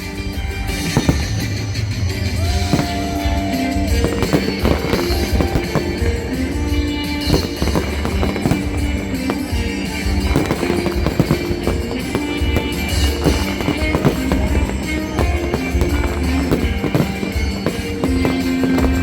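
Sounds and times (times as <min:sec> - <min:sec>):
fireworks banging and popping: 0:00.0 - 0:19.0.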